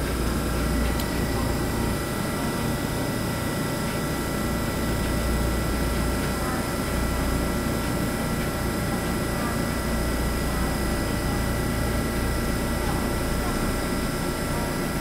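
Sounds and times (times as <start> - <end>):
electric train humming: 0.0 - 13.1.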